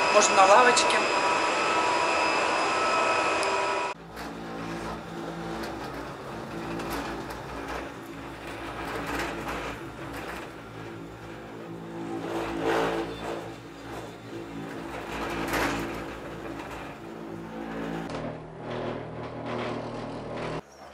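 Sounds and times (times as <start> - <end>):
cable car mechanical hum: 0.0 - 20.9.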